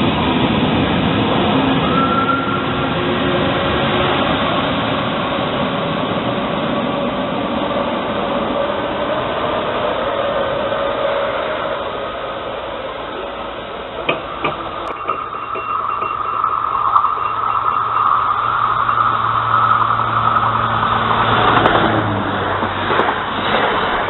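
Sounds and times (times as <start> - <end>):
train running hum: 0.0 - 24.0.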